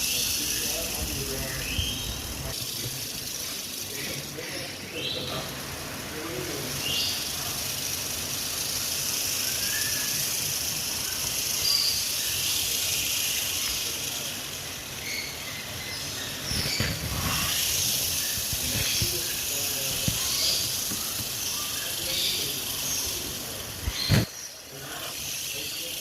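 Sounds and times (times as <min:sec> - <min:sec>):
porcupine quills rattling: 0:00.0 - 0:26.0.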